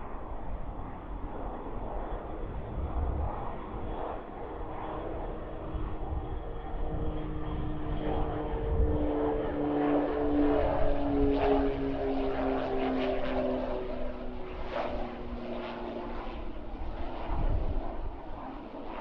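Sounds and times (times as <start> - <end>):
propeller hum: 0.0 - 19.0
turboprop plane engine rumble: 0.0 - 19.0.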